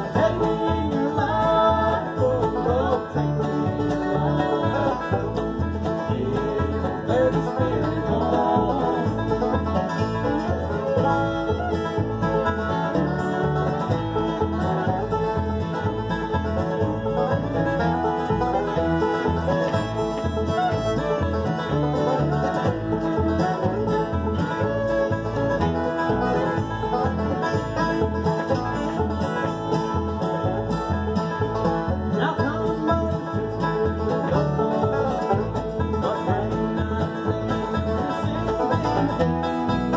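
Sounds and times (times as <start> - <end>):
banjo rolls: 0.0 - 39.9
fiddle: 0.0 - 39.9
strummed acoustic guitar: 0.0 - 39.9
upright bass: 0.0 - 39.9.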